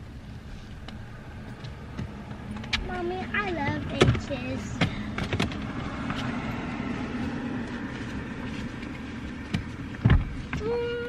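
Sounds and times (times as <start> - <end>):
vehicle running hum: 0.0 - 11.0.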